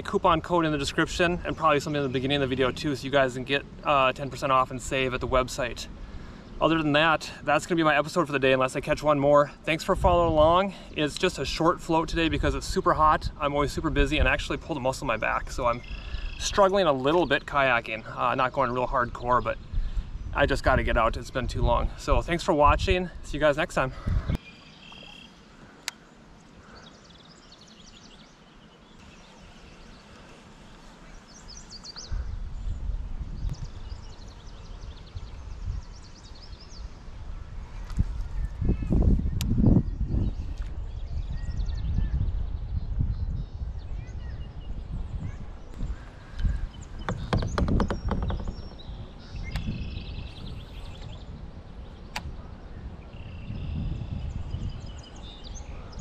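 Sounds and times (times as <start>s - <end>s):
wind buffeting microphone: 0.0s - 24.4s, 29.0s - 56.0s
small birds chirping and trilling: 0.0s - 56.0s.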